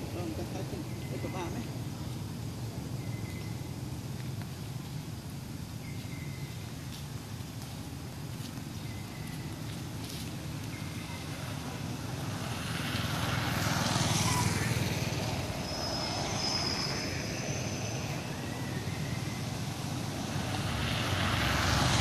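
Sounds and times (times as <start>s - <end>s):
passing vehicle engine rumble: 0.0s - 22.0s.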